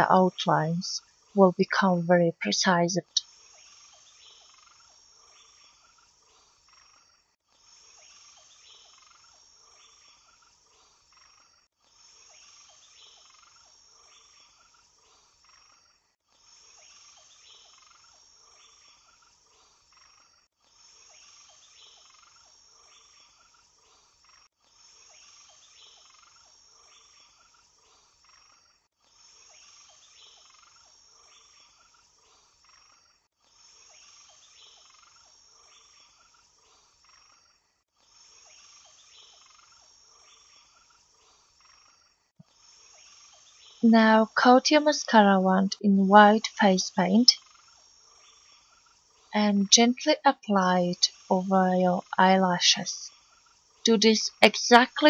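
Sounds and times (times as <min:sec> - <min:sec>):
high steady hiss: 0:03.2 - 0:15.6, 0:16.3 - 0:37.4, 0:38.0 - 0:45.0, 0:46.4 - 0:52.2.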